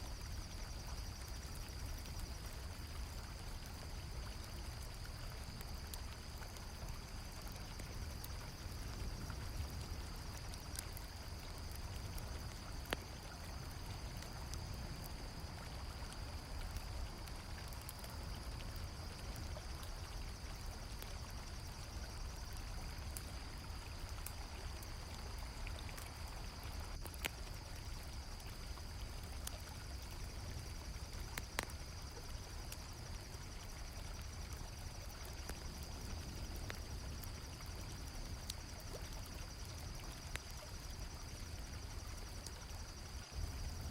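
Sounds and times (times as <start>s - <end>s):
campfire crackling and popping: 0.0s - 43.9s
crickets chirring: 0.0s - 43.9s.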